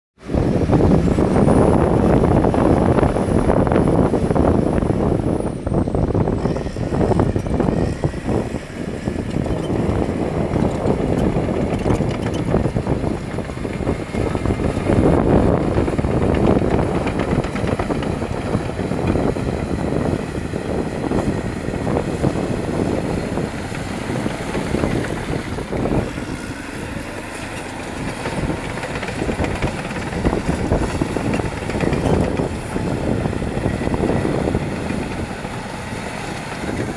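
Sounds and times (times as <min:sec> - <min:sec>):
diesel engine under load: 0:00.2 - 0:36.9.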